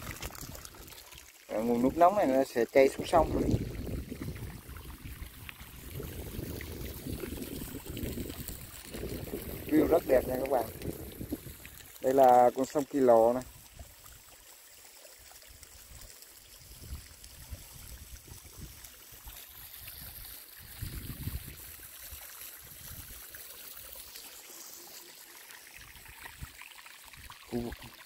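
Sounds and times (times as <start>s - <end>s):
faint flowing water: 0.0s - 28.0s.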